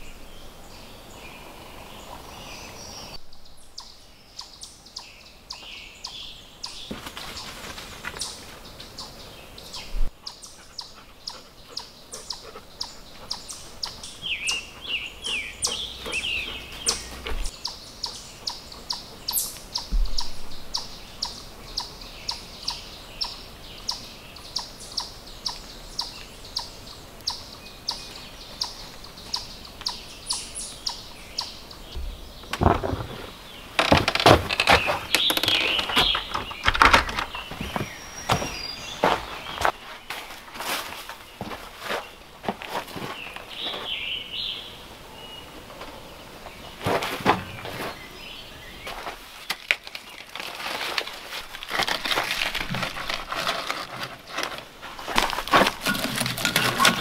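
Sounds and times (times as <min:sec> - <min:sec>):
forest birds chirping: 0:00.0 - 0:57.0.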